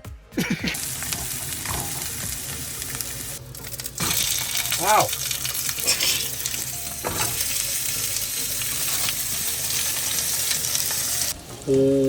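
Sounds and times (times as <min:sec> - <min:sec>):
patties sizzling in a frying pan: 0:00.8 - 0:11.8.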